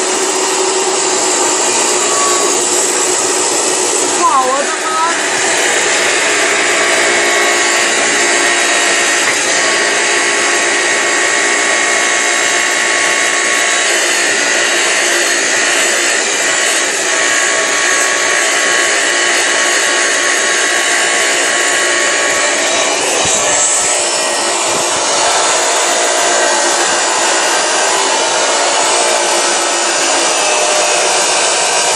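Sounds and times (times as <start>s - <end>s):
small electric motor whirring: 0.0s - 31.9s.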